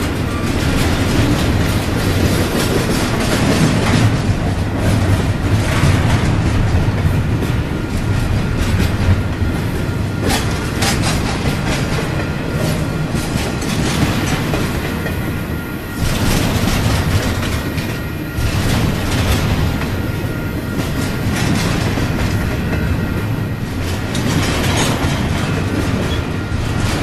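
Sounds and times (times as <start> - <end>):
freight train rumbling past: 0.0 - 27.0
wheels clacking over rail joints: 0.0 - 27.0.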